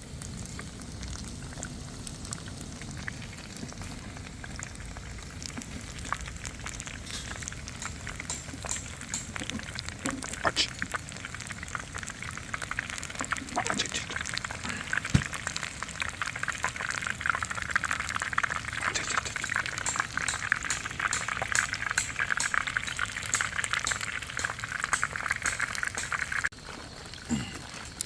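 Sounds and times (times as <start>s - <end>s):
food deep-frying in hot oil: 0.0s - 28.0s.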